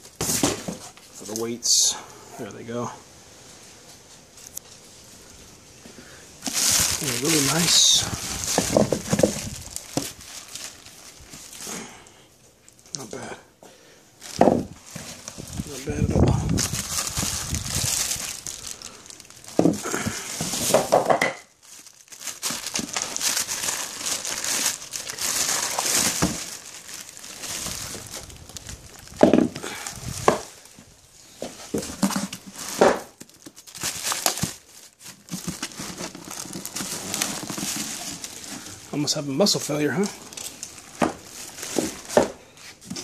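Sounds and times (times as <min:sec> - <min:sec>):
plastic bags crinkling: 0:04.0 - 0:13.3, 0:14.1 - 0:43.0.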